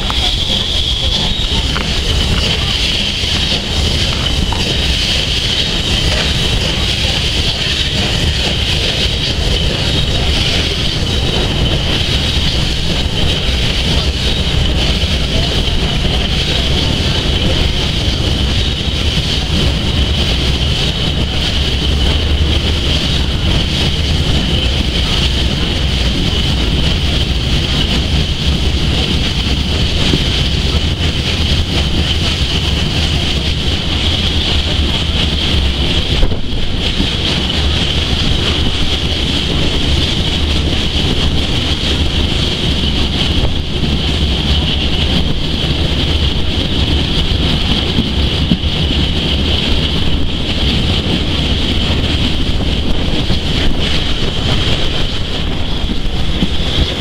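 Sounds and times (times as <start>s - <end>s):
train rolling along track: 0.0s - 57.0s
wind buffeting microphone: 0.0s - 57.0s.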